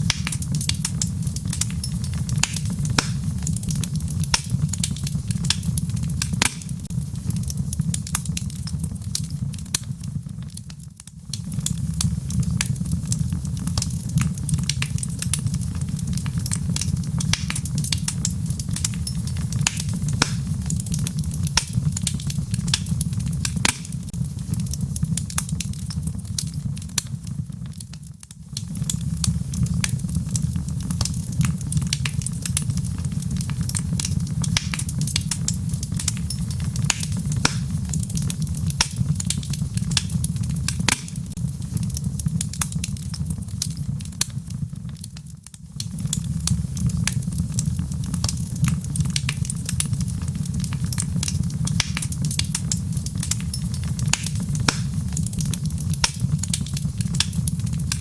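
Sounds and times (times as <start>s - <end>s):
logs crackling and popping: 0.0s - 58.0s
wood fire flames rumbling: 0.0s - 58.0s.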